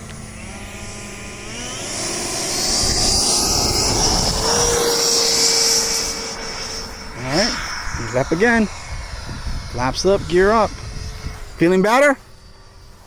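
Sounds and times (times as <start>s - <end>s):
electric jet fan whine: 0.0s - 13.0s.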